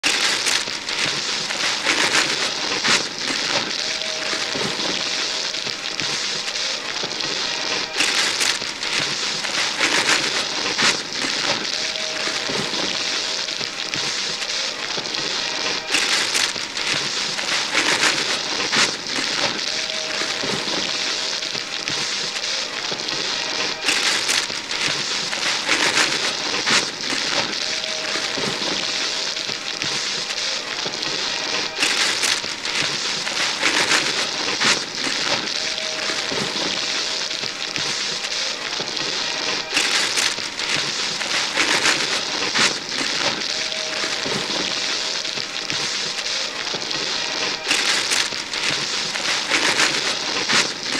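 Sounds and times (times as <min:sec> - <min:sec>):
paper crackling rustle: 0:00.0 - 0:50.9
paper tearing rips: 0:00.0 - 0:50.9.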